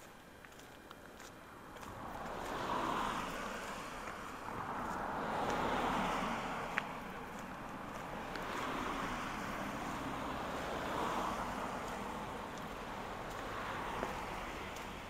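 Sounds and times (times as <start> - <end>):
car tyres hissing on slush: 1.9 - 15.0.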